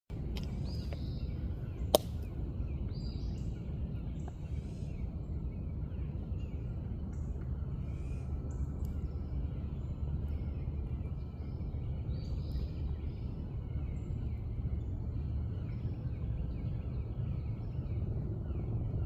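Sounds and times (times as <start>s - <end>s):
low background rumble: 0.1s - 19.0s
birds chirping: 0.2s - 19.0s.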